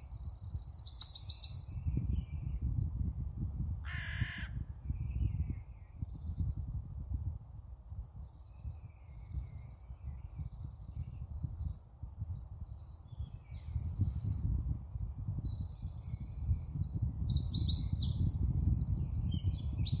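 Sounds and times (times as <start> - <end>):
songbirds singing: 0.0 - 3.1, 3.9 - 6.9, 8.1 - 20.0.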